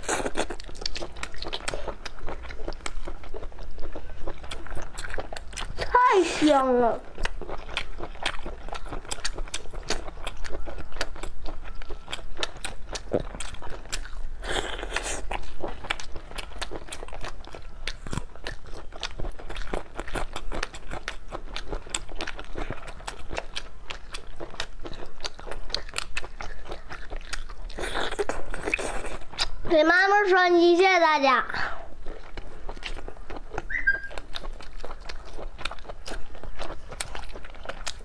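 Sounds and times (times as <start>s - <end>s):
chewing and biting meat: 0.0s - 29.8s, 31.8s - 38.0s.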